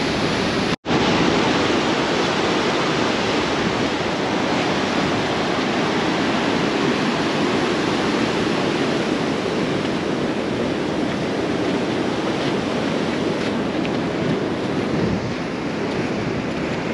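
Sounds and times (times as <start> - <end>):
whitewater rushing over rock: 0.0 - 16.9.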